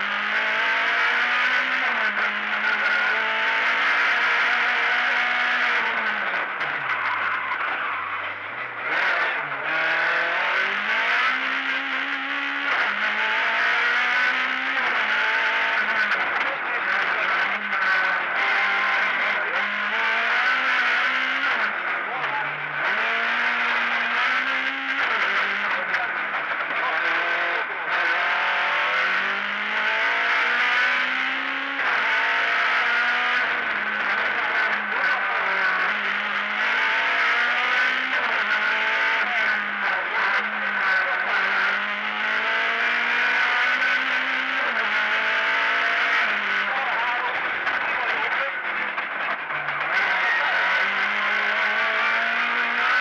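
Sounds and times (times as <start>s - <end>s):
race car engine revving: 0.0s - 53.0s
road and cabin noise: 0.0s - 53.0s.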